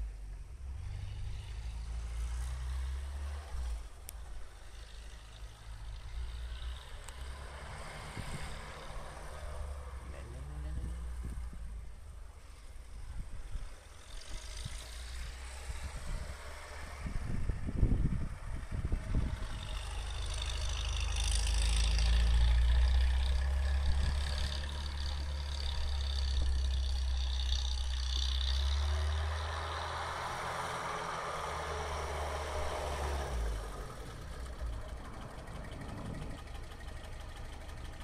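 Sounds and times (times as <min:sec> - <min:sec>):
off-road vehicle engine running: 0:00.0 - 0:38.0
tyres churning snow: 0:00.6 - 0:38.0.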